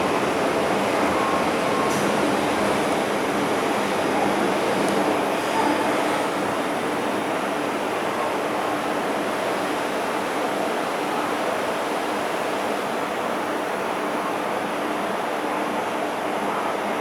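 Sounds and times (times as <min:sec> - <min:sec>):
train rushing through station: 0:00.0 - 0:17.0.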